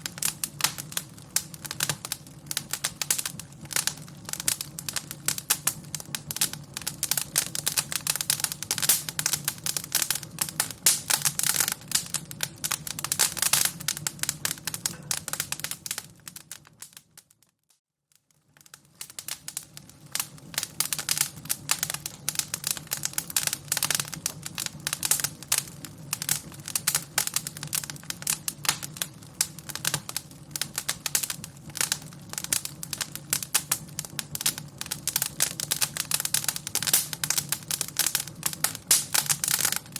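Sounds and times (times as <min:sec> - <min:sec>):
fire crackling: 0:00.0 - 0:17.5, 0:18.2 - 0:39.9.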